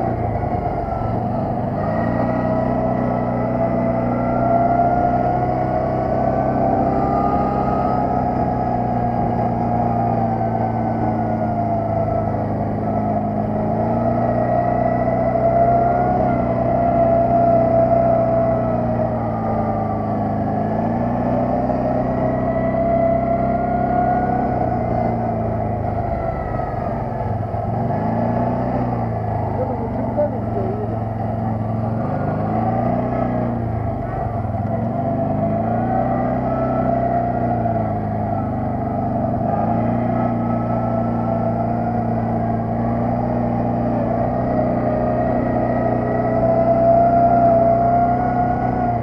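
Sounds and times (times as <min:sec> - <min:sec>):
quad bike engine running: 0:00.0 - 0:49.0.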